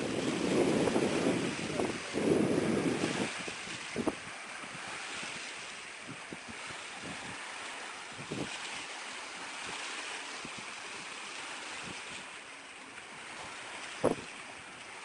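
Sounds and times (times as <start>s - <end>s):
wind on microphone: 0.0s - 12.4s, 13.1s - 14.5s
small waves lapping: 0.0s - 15.0s.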